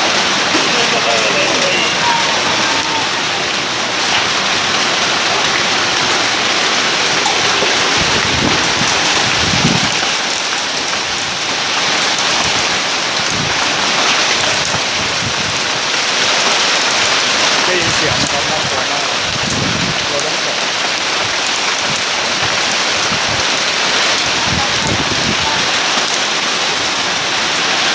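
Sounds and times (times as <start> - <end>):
thunder rumble: 0.0 - 26.4
rain and hail on a roof: 0.0 - 27.9.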